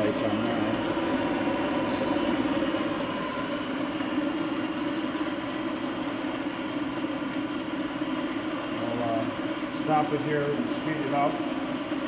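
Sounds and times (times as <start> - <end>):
lathe humming and whining: 0.0 - 12.0.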